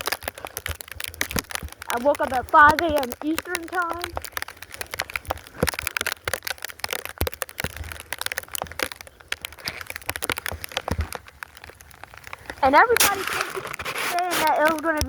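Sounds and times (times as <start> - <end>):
snow crunching: 0.0 - 15.0.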